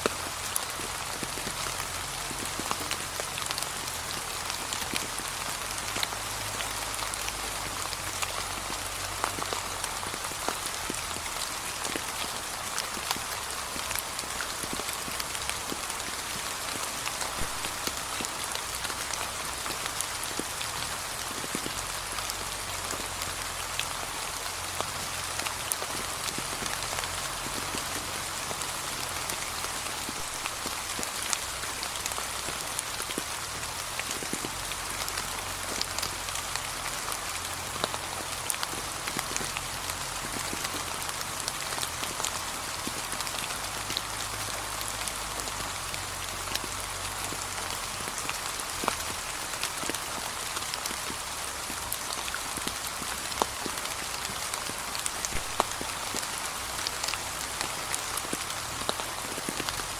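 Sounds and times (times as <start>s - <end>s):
gentle rain pattering: 0.0s - 59.9s.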